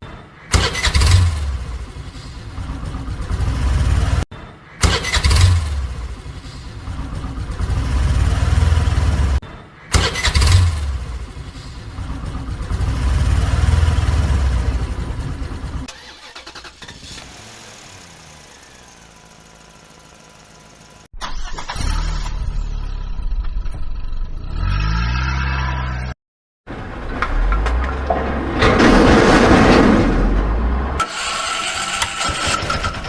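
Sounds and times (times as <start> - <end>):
vehicle engine starting and running: 0.5 - 33.0.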